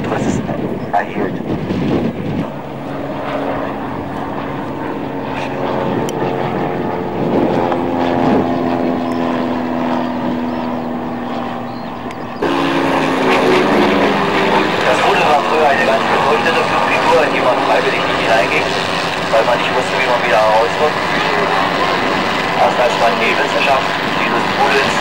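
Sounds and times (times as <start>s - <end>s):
light aircraft propeller engine droning: 0.0s - 25.0s
loud rough engine noise: 3.6s - 25.0s.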